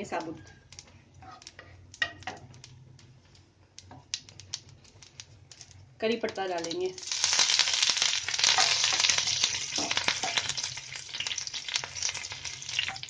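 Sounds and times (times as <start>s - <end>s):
leaves sizzling in hot oil: 0.0s - 13.0s.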